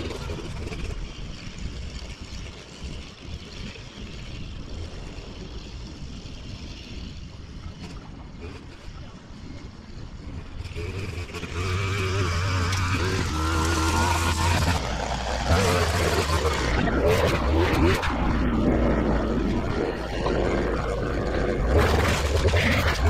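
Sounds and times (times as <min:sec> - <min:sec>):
mower engine running: 0:00.0 - 0:23.0.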